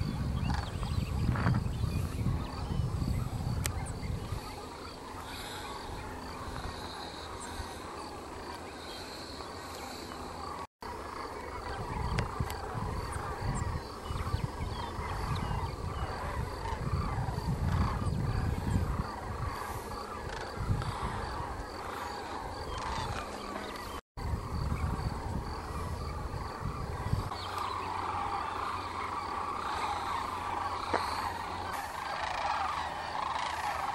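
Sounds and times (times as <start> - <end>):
flock of birds calling: 0.0 - 33.9
wind rumble on microphone: 0.0 - 33.9.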